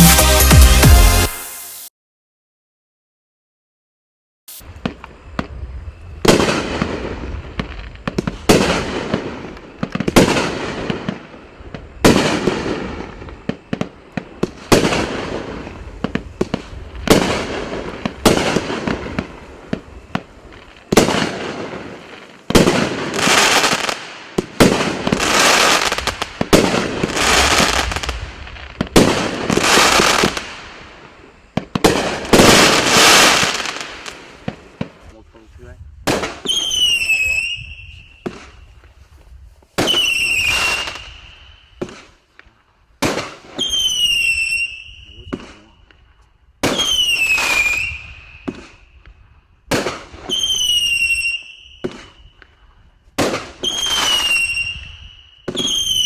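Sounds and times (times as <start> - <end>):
fireworks cake firing shots: 6.2 - 35.2, 36.1 - 38.6, 39.7 - 46.0, 46.6 - 52.6, 53.2 - 56.0.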